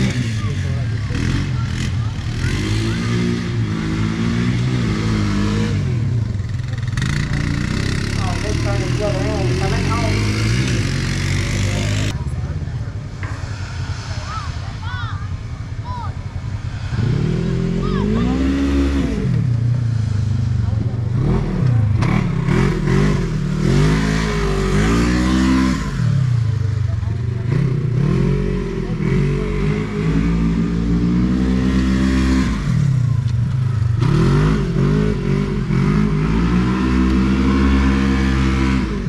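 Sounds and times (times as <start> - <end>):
utility vehicle engine revving: 0.0 - 39.0.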